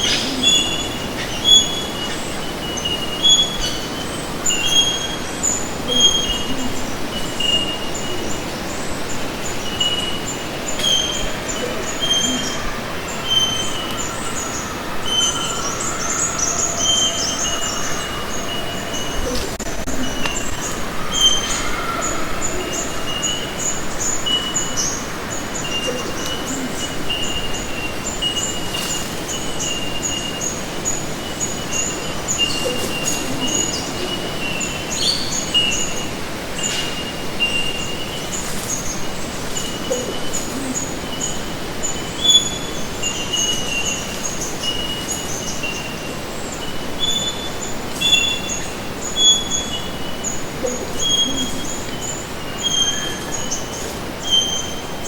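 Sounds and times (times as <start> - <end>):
constant hiss: 0.0 - 55.0
chorus of high chirps: 9.1 - 55.0.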